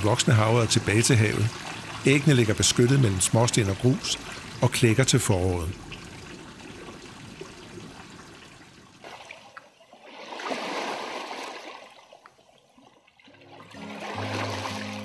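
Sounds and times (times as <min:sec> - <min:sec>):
rush of water: 0:00.0 - 0:15.0
water trickling: 0:00.0 - 0:15.0.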